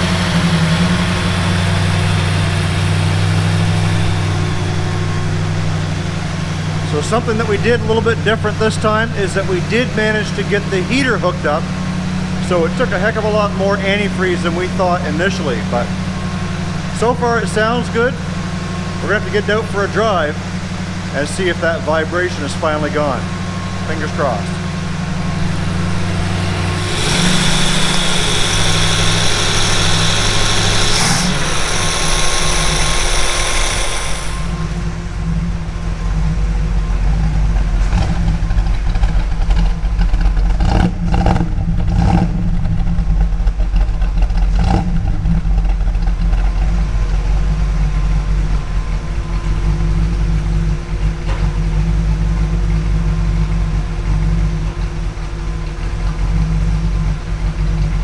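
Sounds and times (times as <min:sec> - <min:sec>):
engine hiss and whir: 0:00.0 - 0:58.0
low exhaust rumble: 0:00.0 - 0:58.0.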